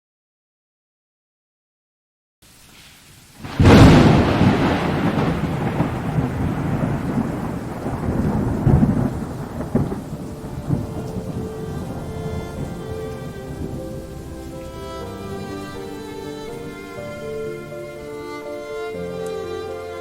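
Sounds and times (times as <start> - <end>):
steady rain: 2.4 - 20.0
thunder rumbling: 3.4 - 19.8.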